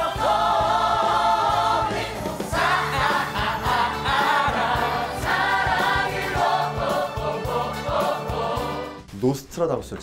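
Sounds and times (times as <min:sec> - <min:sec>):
choir singing upbeat song: 0:00.0 - 0:09.1
instrumental backing with beat: 0:00.0 - 0:09.2.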